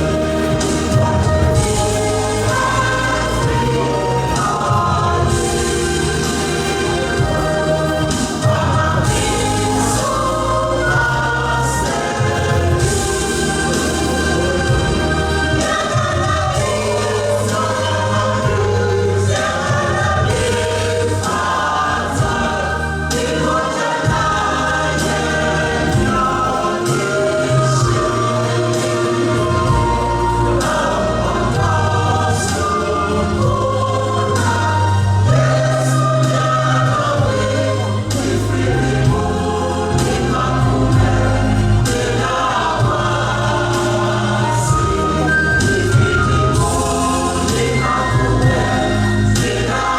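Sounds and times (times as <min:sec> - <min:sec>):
choir singing a hymn: 0:00.0 - 0:49.9
steady bass notes: 0:00.0 - 0:49.9.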